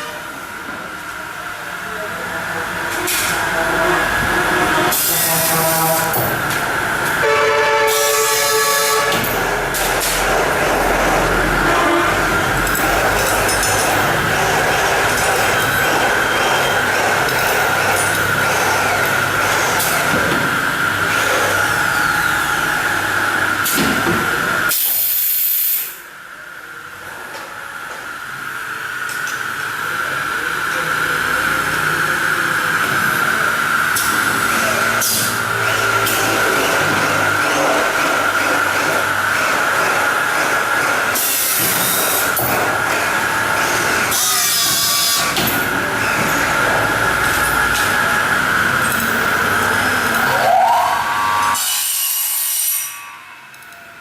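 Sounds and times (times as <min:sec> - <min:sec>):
machine running with high tone: 0:00.0 - 0:54.0.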